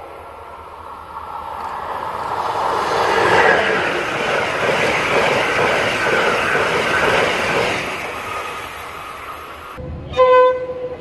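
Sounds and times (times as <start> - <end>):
passenger train passing: 0.0 - 11.0.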